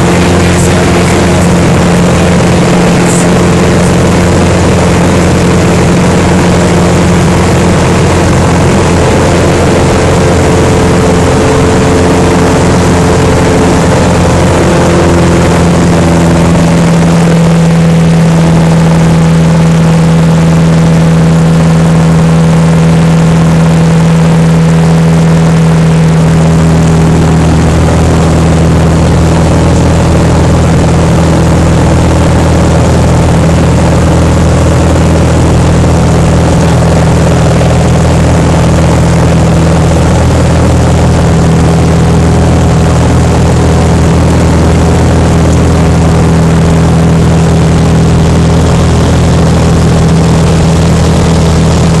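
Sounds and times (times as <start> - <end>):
aircraft engine and propeller drone: 0.0 - 52.0.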